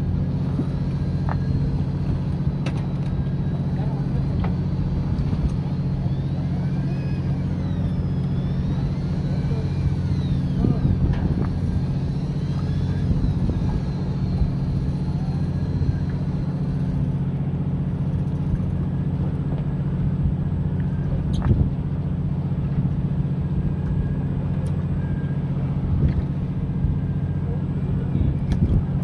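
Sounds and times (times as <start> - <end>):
boat machinery drone: 0.0 - 29.0.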